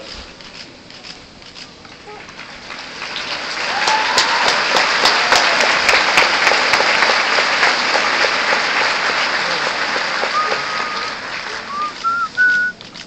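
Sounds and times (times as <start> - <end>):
audience applauding: 1.9 - 12.7
sharp individual claps: 1.9 - 12.7.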